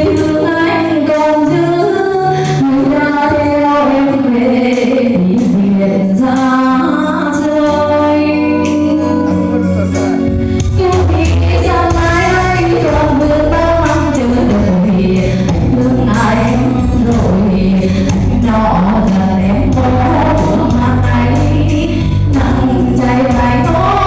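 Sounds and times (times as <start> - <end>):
instrumental backing with bass: 0.0 - 24.0
woman singing: 0.0 - 24.0.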